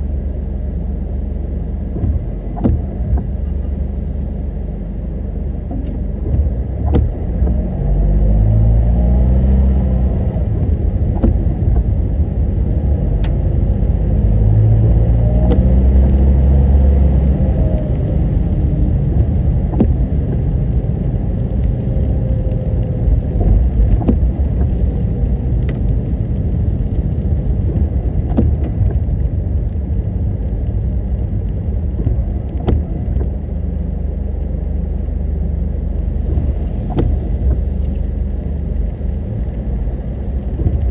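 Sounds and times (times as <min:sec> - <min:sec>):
car engine and tyre noise: 0:00.0 - 0:40.9.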